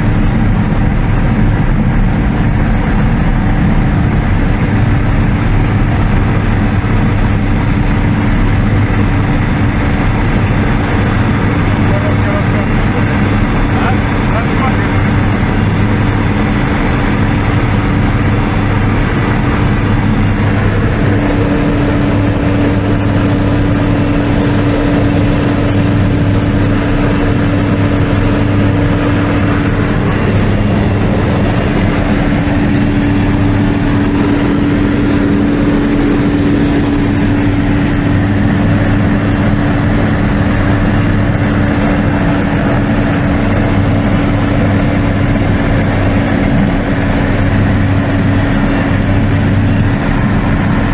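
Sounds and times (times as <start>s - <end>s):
light aircraft engine drone: 0.0s - 50.9s.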